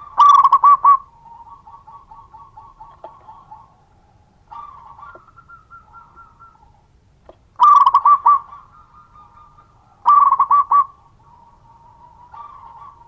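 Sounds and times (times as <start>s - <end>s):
dove cooing: 0.0s - 7.0s, 7.6s - 13.0s.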